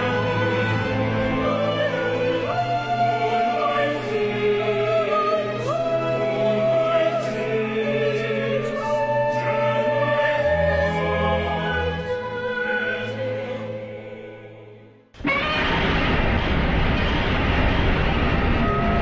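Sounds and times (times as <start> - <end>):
operatic choral singing: 0.0 - 16.2.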